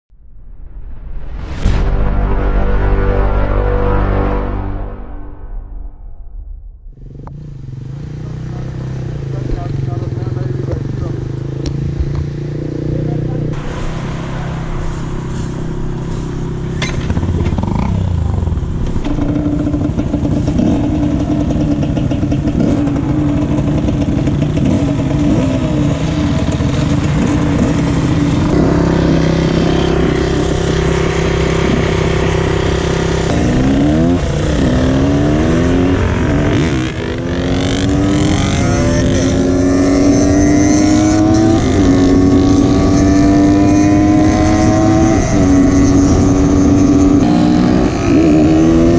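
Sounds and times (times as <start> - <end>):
motorcycle engines revving: 6.9 - 48.9.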